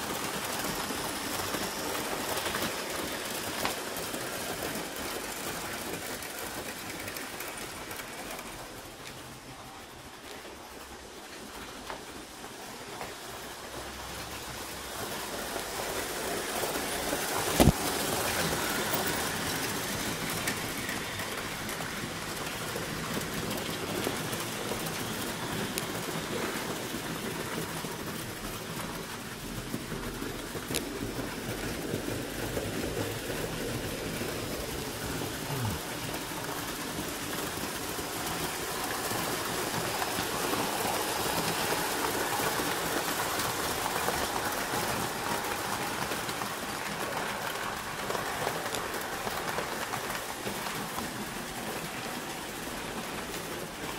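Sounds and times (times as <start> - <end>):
model trains whirring on track: 0.0 - 53.9.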